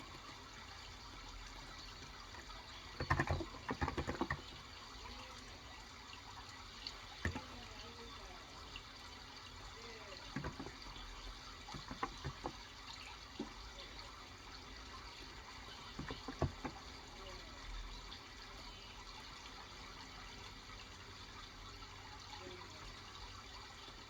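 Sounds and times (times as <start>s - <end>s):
running water: 0.0s - 24.0s.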